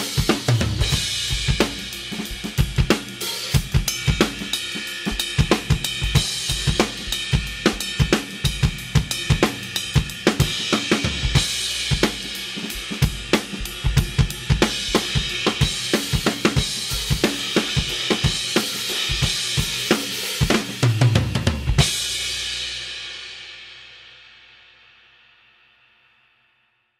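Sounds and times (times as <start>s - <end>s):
drum kit groove: 0.0s - 23.8s.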